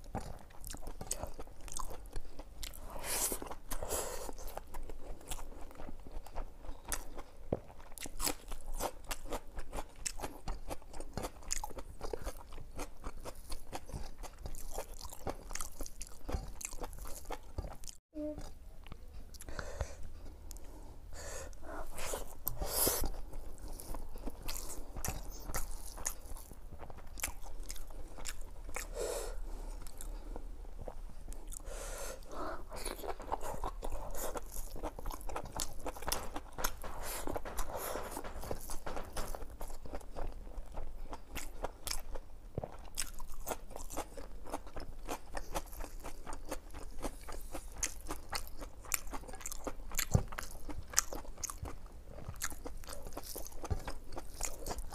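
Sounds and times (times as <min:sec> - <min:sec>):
chewing and biting: 0:00.0 - 0:20.7, 0:21.6 - 0:31.7, 0:32.3 - 0:54.9.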